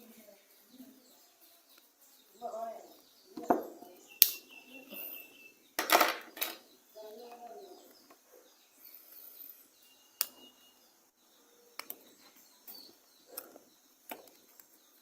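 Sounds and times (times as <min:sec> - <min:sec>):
faint bird chirps: 0:00.0 - 0:05.8, 0:06.5 - 0:15.0.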